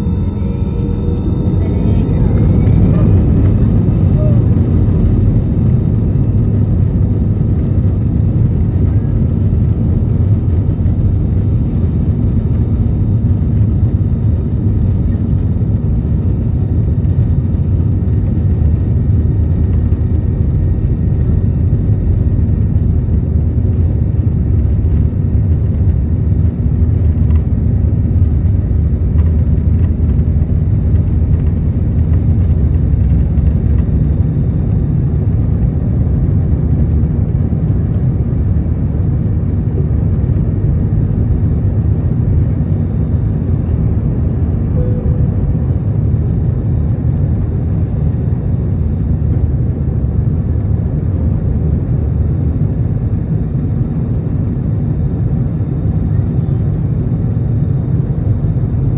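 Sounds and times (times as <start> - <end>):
low rumble of jet engines: 0.0 - 58.9.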